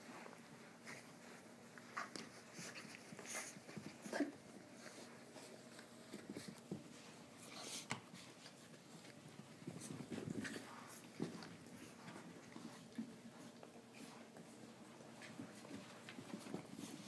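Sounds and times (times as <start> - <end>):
small dogs play-fighting: 0.0 - 17.0.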